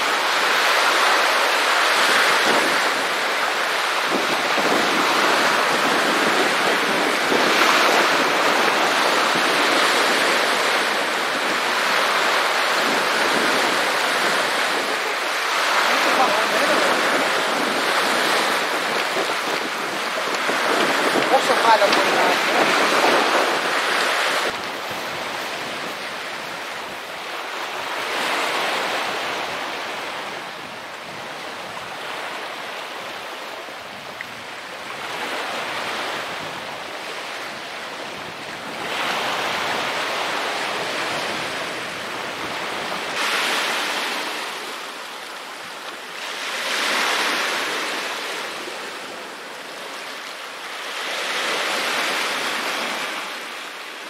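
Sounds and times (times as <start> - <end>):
waves breaking on pebbles: 0.0 - 30.4, 34.3 - 53.6.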